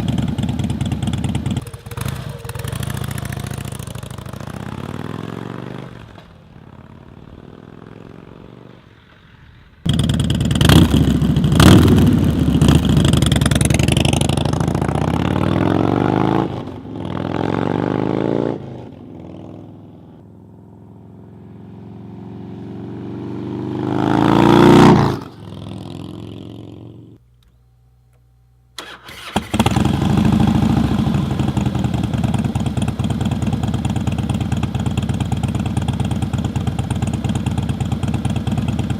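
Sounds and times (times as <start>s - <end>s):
motorcycle engine idling and revving: 0.0s - 27.2s, 28.8s - 38.9s.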